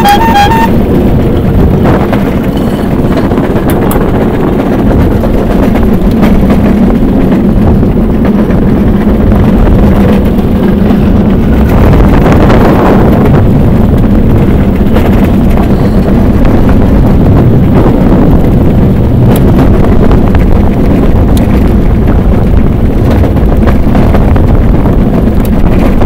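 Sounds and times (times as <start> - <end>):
wheels rumbling on rails: 0.0 - 26.0
wind buffeting microphone: 0.0 - 26.0.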